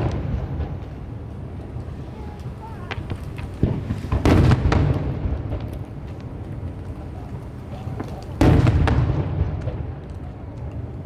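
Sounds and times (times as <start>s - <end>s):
firework booms: 0.0s - 11.0s
low rolling rumble: 0.0s - 11.0s.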